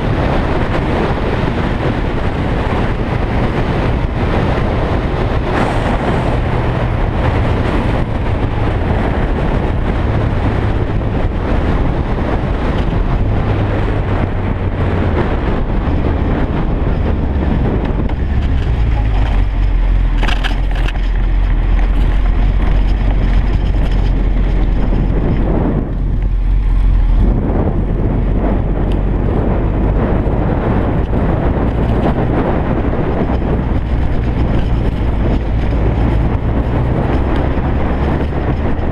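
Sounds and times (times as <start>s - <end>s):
motorbike engine running: 0.0s - 38.9s
wind rush: 0.0s - 38.9s.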